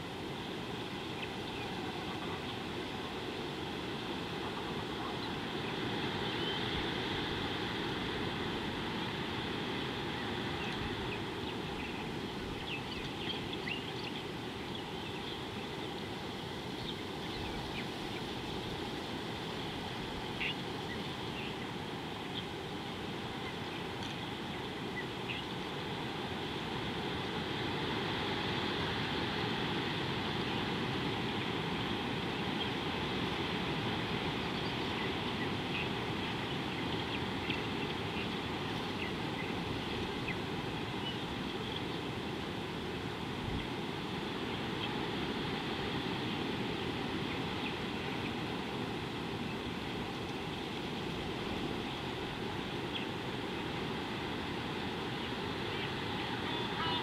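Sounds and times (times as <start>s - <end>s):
outdoor rumble and hiss: 0.0s - 57.0s.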